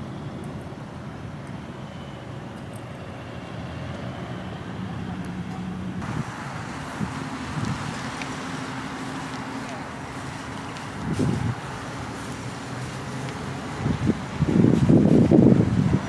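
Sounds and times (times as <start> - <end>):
car engines running: 0.0 - 16.0
vehicles moving: 0.0 - 16.0.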